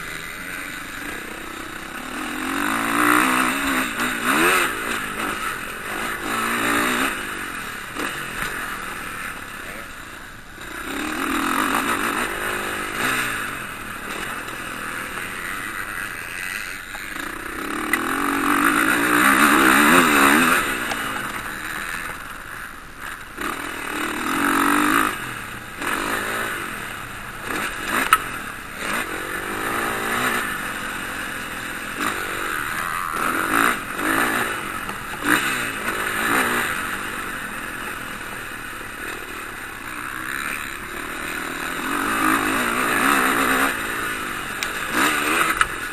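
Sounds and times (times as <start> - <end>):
motocross bikes revving past: 0.0 - 45.9.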